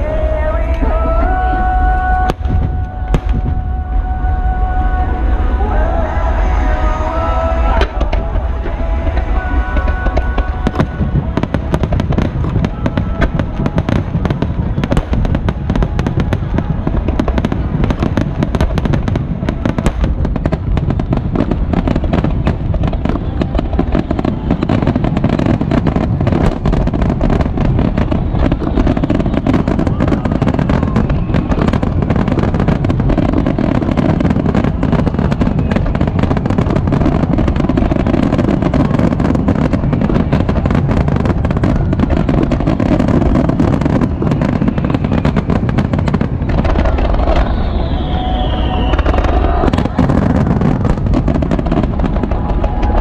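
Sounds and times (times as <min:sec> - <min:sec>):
fireworks bursting and crackling: 0:00.0 - 0:53.0
low rumble: 0:00.0 - 0:53.0.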